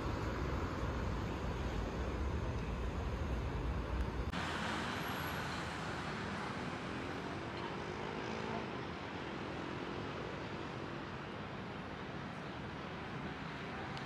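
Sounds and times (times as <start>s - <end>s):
passing cars and buses: 0.0s - 14.0s.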